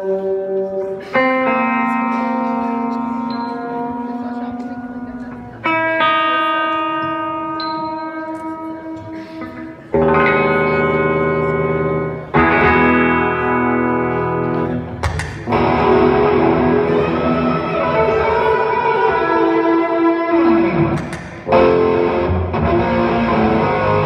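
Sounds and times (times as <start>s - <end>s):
electric guitar chords ringing: 0.0s - 24.0s.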